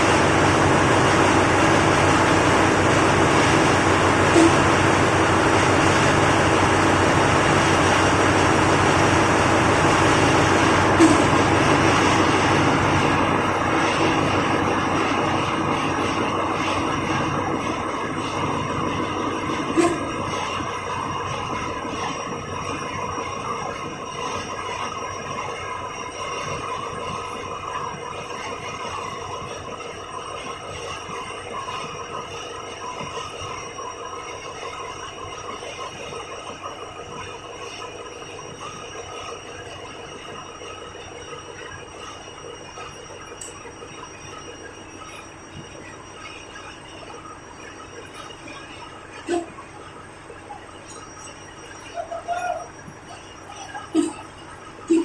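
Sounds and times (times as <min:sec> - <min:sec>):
marine diesel engine running: 0:00.0 - 0:55.0.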